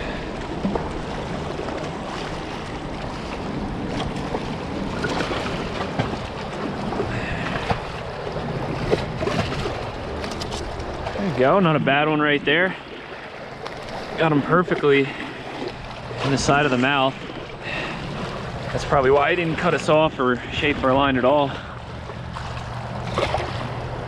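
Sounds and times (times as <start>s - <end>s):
surf washing against rocks: 0.0s - 24.0s.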